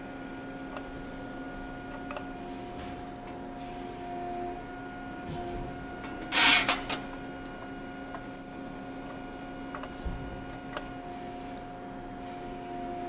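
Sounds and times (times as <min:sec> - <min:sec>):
hydraulic hum: 0:00.0 - 0:13.0.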